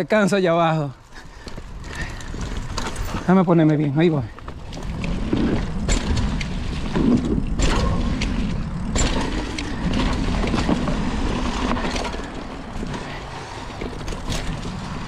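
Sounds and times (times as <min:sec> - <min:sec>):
bike tyres rumbling on dirt: 0:00.0 - 0:15.0
bike clacking and rattling: 0:01.0 - 0:15.0.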